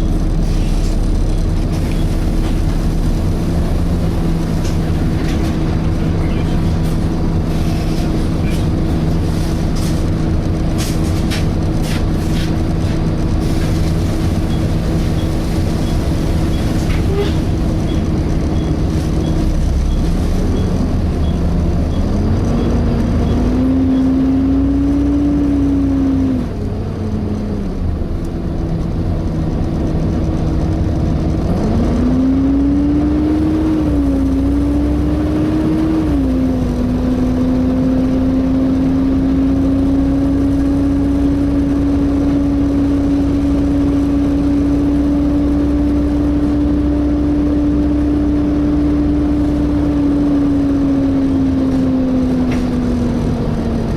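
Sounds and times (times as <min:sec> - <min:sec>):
bus engine: 0:00.0 - 0:53.9.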